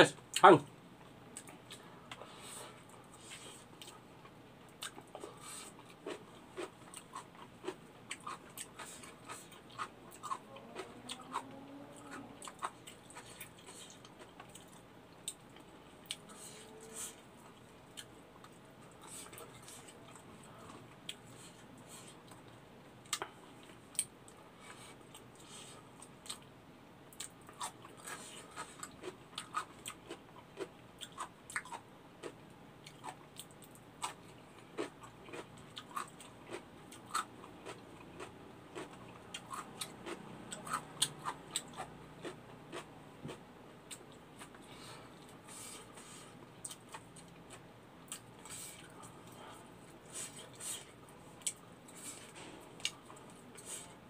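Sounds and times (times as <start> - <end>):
person chewing with mouth clicks: 4.7 - 26.5, 27.1 - 54.0.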